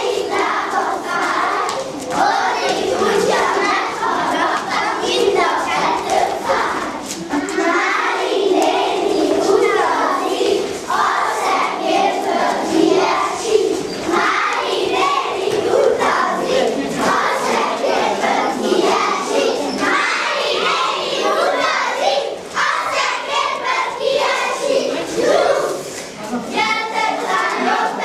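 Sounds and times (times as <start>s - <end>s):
children singing in chorus: 0.0s - 28.0s.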